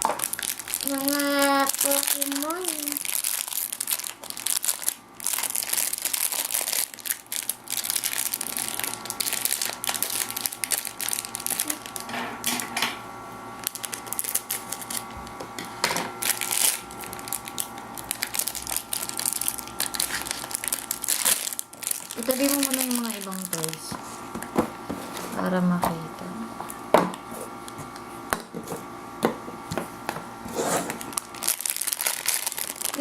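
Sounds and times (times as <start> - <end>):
plastic packaging crackling: 0.0 - 12.7, 13.6 - 25.6, 30.9 - 33.0.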